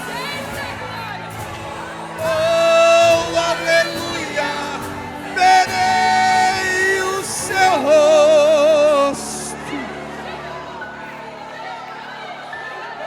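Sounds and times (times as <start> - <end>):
person singing gospel: 0.0 - 11.3
keyboard accompaniment: 0.0 - 13.0.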